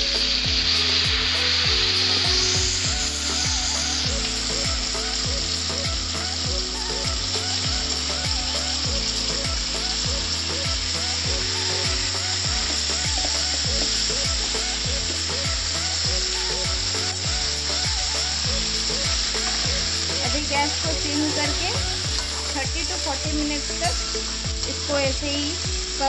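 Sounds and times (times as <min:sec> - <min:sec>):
background music with beat: 0:00.0 - 0:26.0
chicken sizzling in oil: 0:00.0 - 0:26.0.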